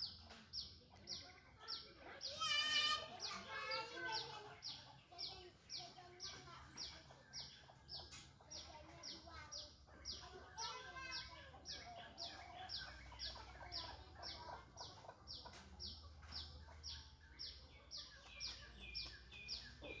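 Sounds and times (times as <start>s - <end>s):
faint birds and fowl calling: 0.0s - 20.0s.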